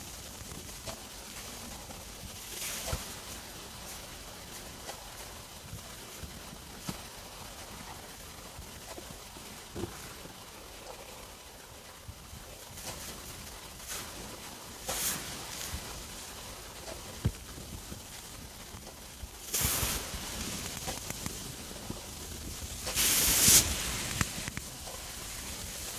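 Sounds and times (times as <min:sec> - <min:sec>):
steady hiss: 0:00.0 - 0:25.9.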